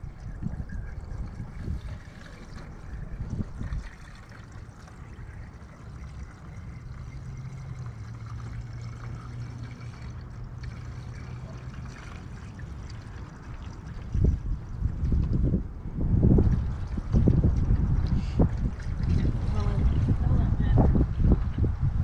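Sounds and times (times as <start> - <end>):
coolant trickling into funnel: 0.0 - 21.7.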